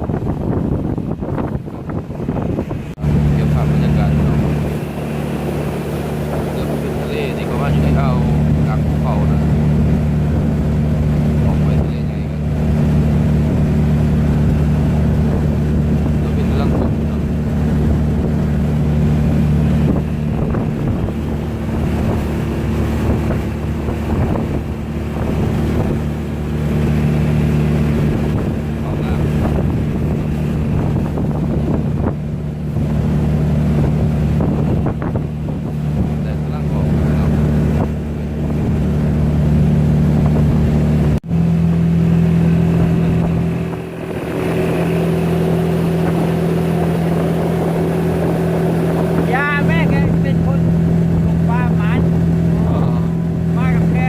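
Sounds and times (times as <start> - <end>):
boat engine droning: 0.0 - 54.0
wind gusting over microphone: 0.0 - 54.0.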